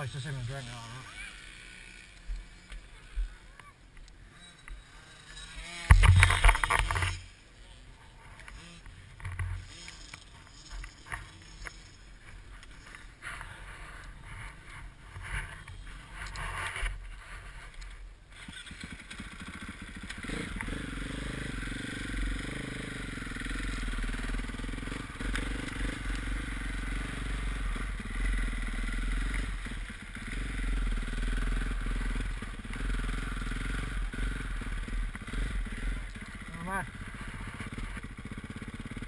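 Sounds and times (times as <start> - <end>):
motorcycle engine at low revs: 0.0 - 39.0.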